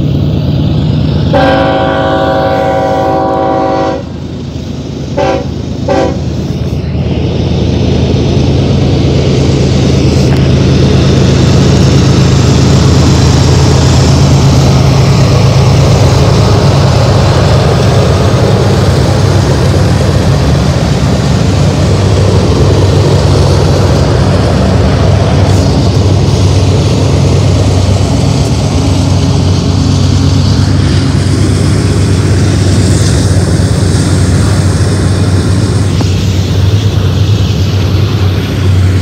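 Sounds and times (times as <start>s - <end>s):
locomotive engine drone: 0.0s - 39.0s
steel wheels rolling on rails: 6.0s - 39.0s.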